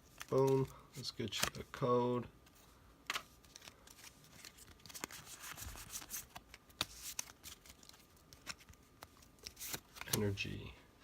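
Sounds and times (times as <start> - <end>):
cards rustling and clicking: 0.0 - 1.8, 2.4 - 10.6.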